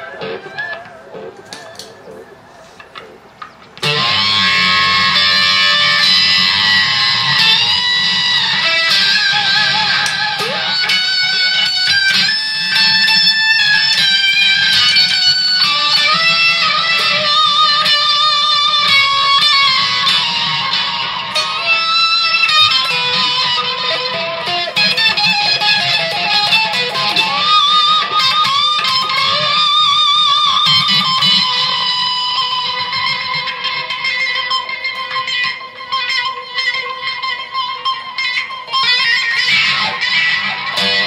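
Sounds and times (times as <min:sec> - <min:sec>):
electric guitar solo: 0:00.0 - 0:41.0.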